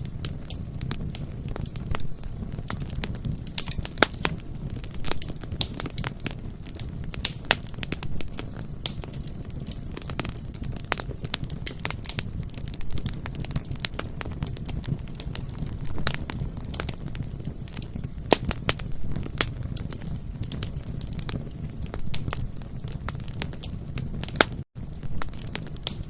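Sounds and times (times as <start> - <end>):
bonfire wood crackling and popping: 0.0 - 26.0
low fire rumble: 0.0 - 26.0.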